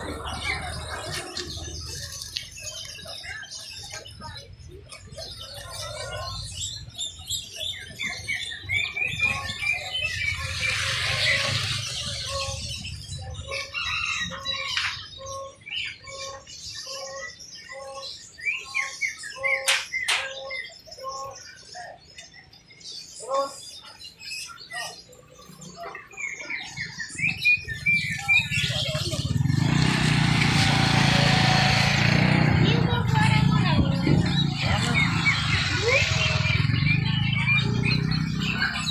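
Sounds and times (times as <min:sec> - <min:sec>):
caged birds chirping: 0:00.0 - 0:38.9.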